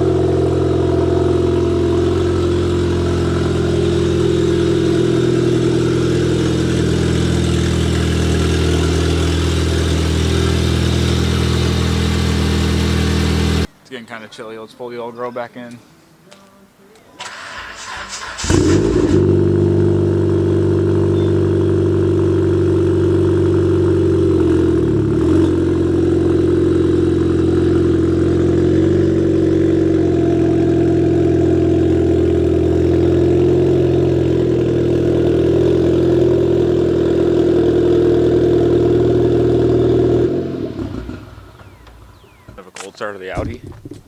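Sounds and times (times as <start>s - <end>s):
car engine cranking and idling: 0.0s - 13.7s, 17.2s - 44.0s.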